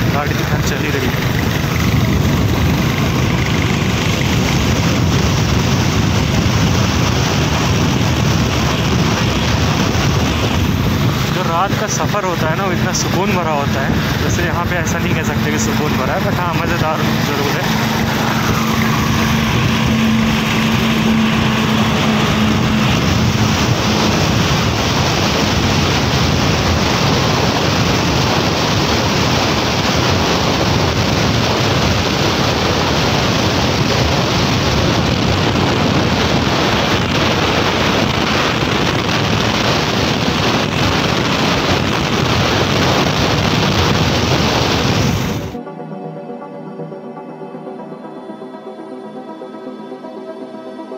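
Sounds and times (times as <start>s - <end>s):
motorcycle road noise: 0.0s - 45.6s
wind rushing over microphone: 0.0s - 45.6s.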